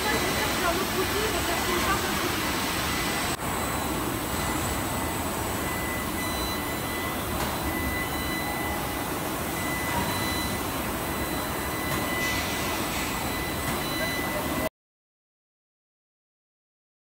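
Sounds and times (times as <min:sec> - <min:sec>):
high steady whines: 0:00.0 - 0:14.7
machinery rushing hum: 0:00.0 - 0:14.7.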